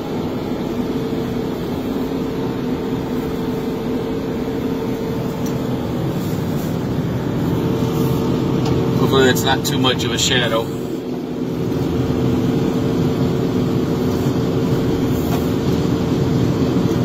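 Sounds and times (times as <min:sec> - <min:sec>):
street sweeper engine drone: 0:00.0 - 0:17.0.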